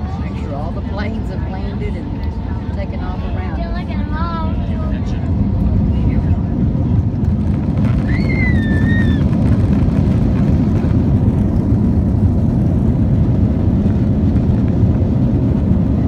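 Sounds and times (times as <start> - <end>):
jet engines rumbling: 0.0 - 16.0
wheels on runway: 0.0 - 16.0.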